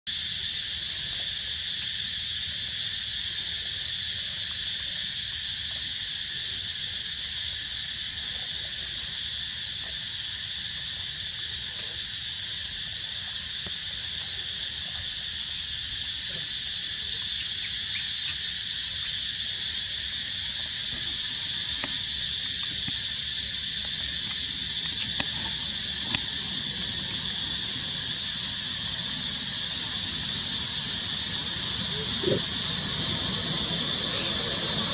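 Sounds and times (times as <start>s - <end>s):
insects chirring: 0.1s - 34.9s.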